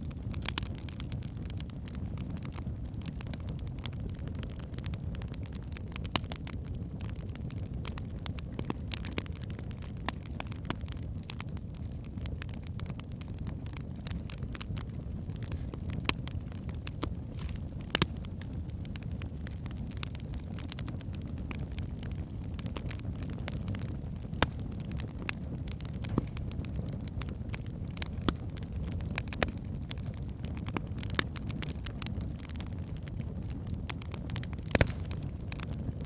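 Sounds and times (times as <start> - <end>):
fire flames rumbling: 0.0 - 36.0
logs crackling and popping: 0.0 - 36.0.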